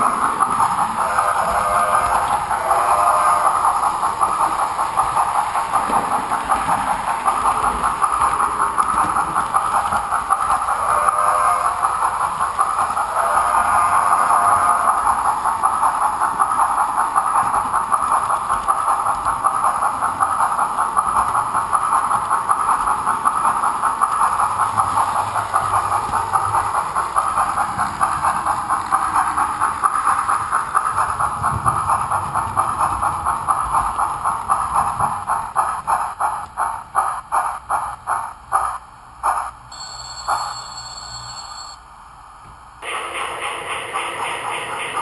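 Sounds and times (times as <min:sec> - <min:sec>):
steam chuffing through small speaker: 0:00.0 - 0:40.7, 0:42.8 - 0:45.0.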